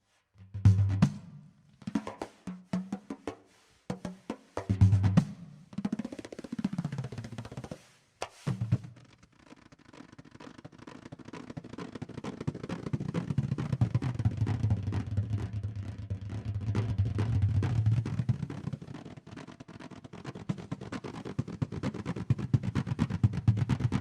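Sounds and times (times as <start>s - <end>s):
rapid drum roll: 0.6s - 9.0s, 11.4s - 19.0s, 20.4s - 24.0s.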